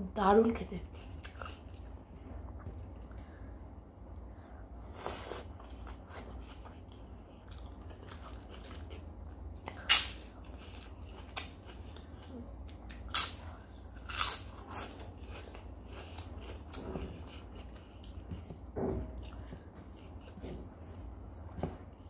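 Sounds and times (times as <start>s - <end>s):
person chewing crisp food: 0.8s - 22.0s.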